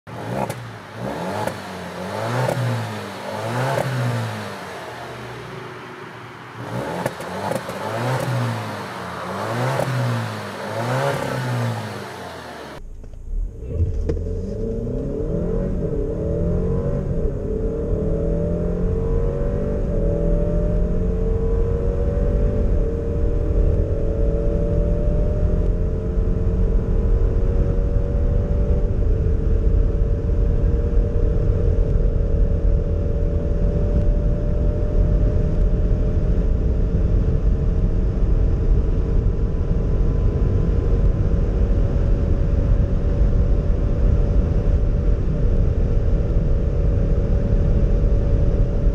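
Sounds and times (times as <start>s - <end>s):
car engine accelerating: 0.0s - 48.9s
wind and tyre noise: 0.1s - 48.9s.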